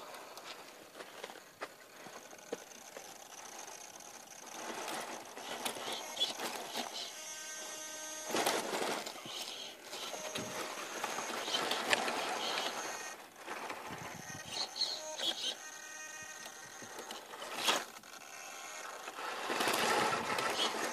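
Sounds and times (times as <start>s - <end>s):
tyres crunching over gravel: 0.0s - 18.0s
toy car electric motor whining: 1.0s - 20.9s.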